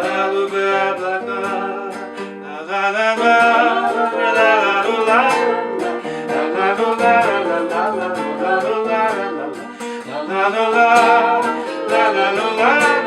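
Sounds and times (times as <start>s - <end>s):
acoustic guitar strumming: 0.0s - 13.0s
person singing without words: 0.0s - 13.0s.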